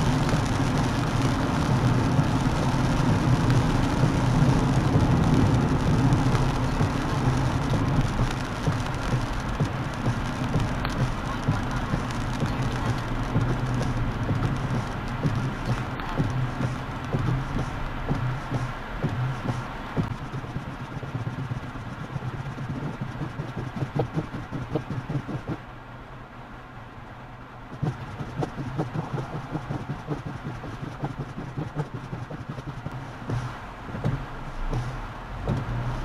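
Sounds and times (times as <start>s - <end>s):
raindrops ticking on windshield: 0.0s - 25.7s, 27.4s - 36.0s
car road and engine noise: 0.0s - 36.0s.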